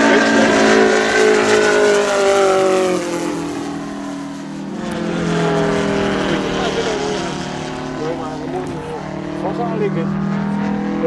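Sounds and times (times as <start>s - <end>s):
model plane engine flying past: 0.0s - 11.0s.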